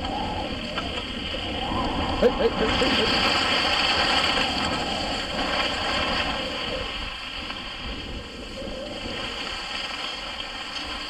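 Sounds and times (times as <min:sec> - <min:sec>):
wind on microphone: 0:00.0 - 0:11.0
skis hissing over snow: 0:00.4 - 0:11.0.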